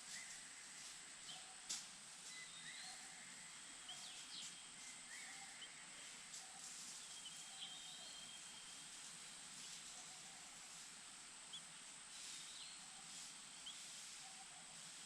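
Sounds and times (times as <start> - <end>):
steady high hiss: 0.0 - 15.0
birds chirping: 2.2 - 10.8, 11.4 - 15.0.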